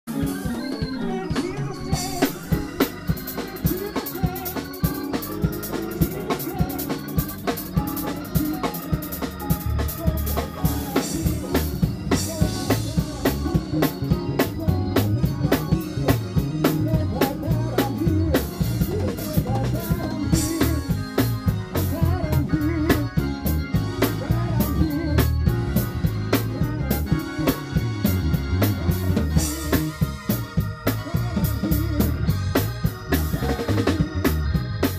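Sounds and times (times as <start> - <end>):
organ and keyboard chords: 0.0 - 34.9
bass guitar line: 0.1 - 34.9
drum kit groove: 0.1 - 34.9.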